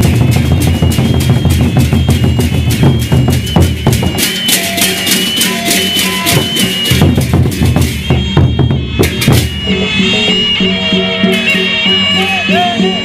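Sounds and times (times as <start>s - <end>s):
rapid dense drum strokes: 0.0s - 11.8s
thin high melodic line: 0.0s - 13.0s.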